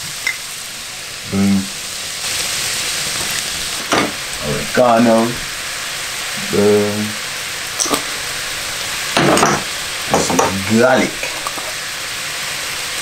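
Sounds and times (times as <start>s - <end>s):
prawns sizzling in a wok: 0.0s - 13.0s.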